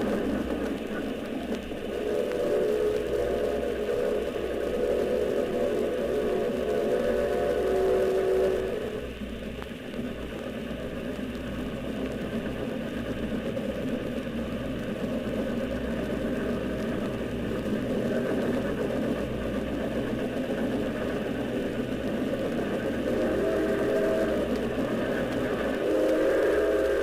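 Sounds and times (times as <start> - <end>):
record surface noise and hum: 0.0 - 27.0
steam train chugging: 0.0 - 27.0.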